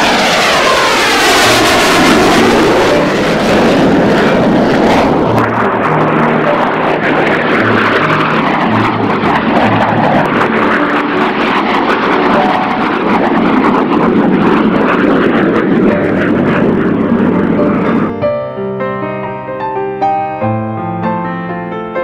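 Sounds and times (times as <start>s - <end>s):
jet fighter flying by: 0.0s - 22.0s.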